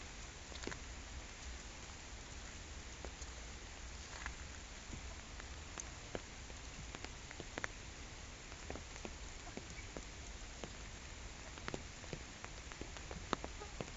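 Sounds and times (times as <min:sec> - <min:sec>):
rain hissing on a pond: 0:00.0 - 0:13.9.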